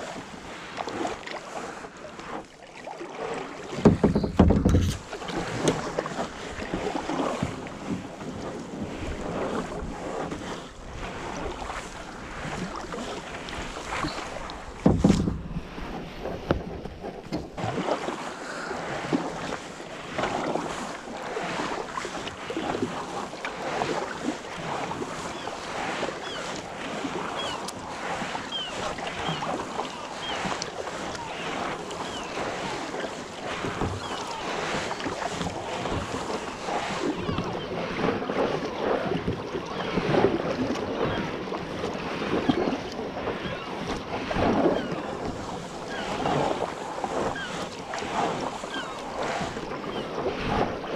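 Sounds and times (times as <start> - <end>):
kayak paddle dipping into water: 0.0 - 50.9.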